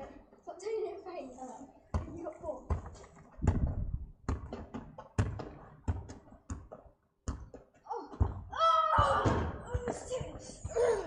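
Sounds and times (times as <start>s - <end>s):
football bouncing on tarmac: 1.9s - 10.9s.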